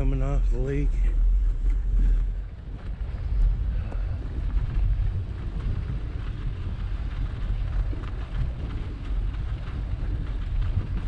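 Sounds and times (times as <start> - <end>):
tires crackling on snow: 0.0 - 11.0
wind buffeting microphone: 0.0 - 11.0.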